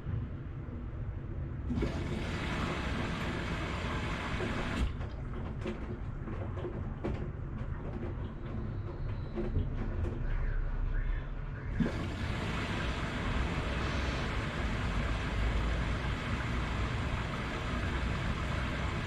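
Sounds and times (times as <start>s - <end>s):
washing machine running: 1.5s - 10.6s, 11.6s - 19.0s.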